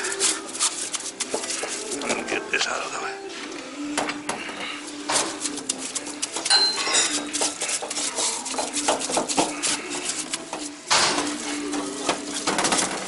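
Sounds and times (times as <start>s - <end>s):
scrubbing and scraping engine parts: 0.0s - 2.8s, 4.4s - 13.0s.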